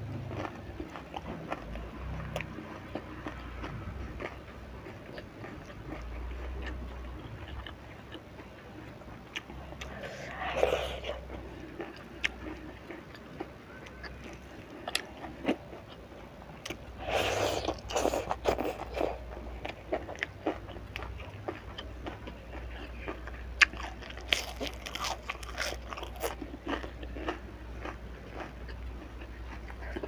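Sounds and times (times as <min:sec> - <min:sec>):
chewing and crunching fried fish: 0:00.0 - 0:30.0.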